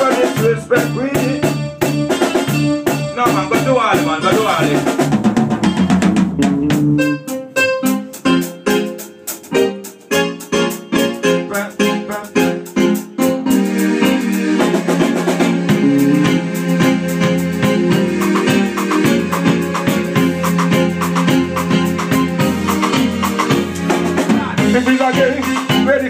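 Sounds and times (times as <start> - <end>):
drums and keyboard backing track: 0.0 - 26.0.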